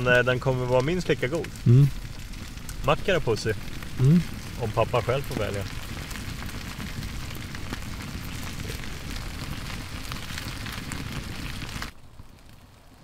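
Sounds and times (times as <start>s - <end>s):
wood fire crackling and hissing: 0.0s - 13.0s.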